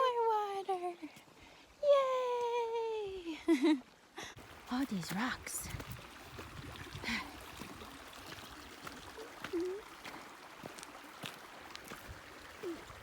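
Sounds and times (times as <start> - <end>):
stream babbling: 1.4 - 13.0.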